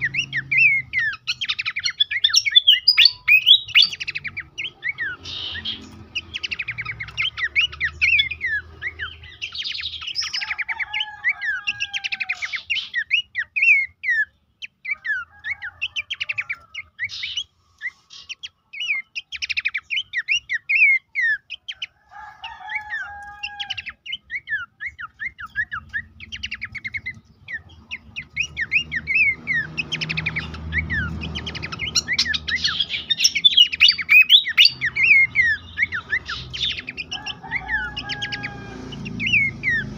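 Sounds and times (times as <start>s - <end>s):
small bird singing chirps: 0.0s - 39.9s.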